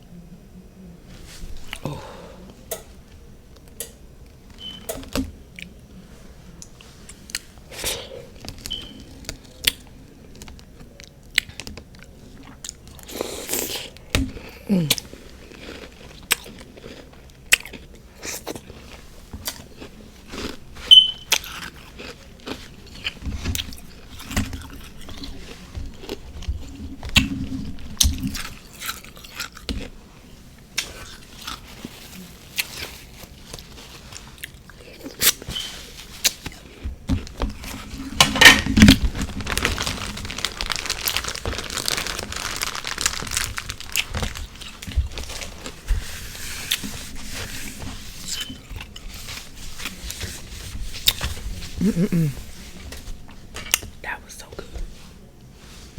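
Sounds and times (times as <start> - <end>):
crunching and chewing: 6.6 - 54.0.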